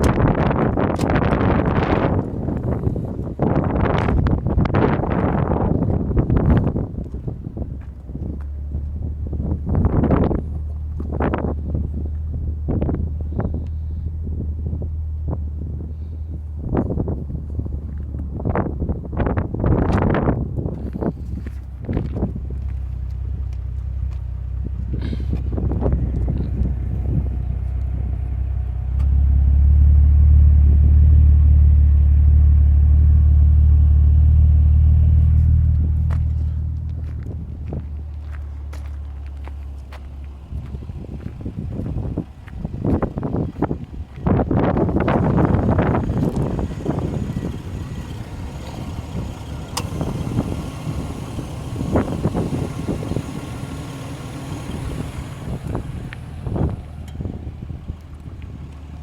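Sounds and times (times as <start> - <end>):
car engine idling: 0.0 - 59.0
wind hitting microphone: 0.0 - 59.0.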